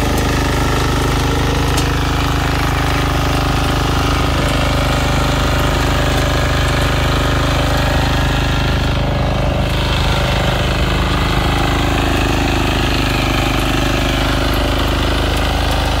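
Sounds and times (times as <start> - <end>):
power tiller engine running: 0.0 - 16.0
tines churning soil: 0.0 - 16.0.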